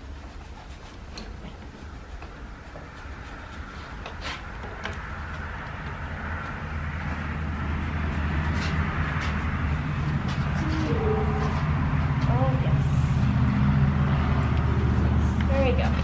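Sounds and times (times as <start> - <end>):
low engine hum: 1.2 - 16.0.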